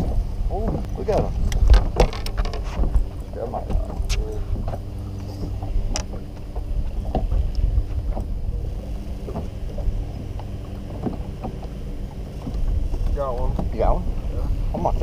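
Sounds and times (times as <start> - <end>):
fishing rods and reels knocking: 0.0 - 15.0
steady low hum: 0.0 - 15.0
water against boat hull: 0.0 - 15.0
wind buffeting microphone: 0.0 - 15.0.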